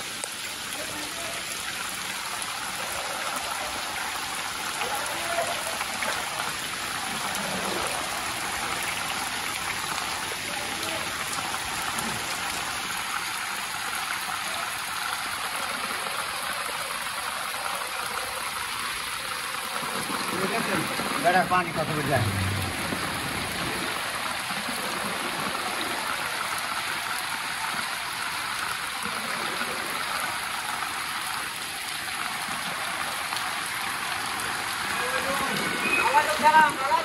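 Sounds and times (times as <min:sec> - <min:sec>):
heavy rain on water: 0:00.0 - 0:37.0.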